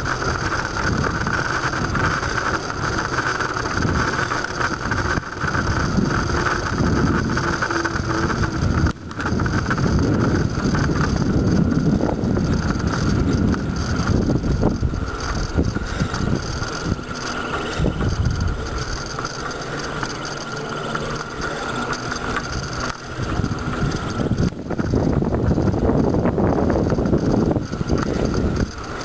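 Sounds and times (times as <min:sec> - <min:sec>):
bicycle riding on road: 0:00.0 - 0:29.0
wind rumbling on microphone: 0:00.0 - 0:29.0.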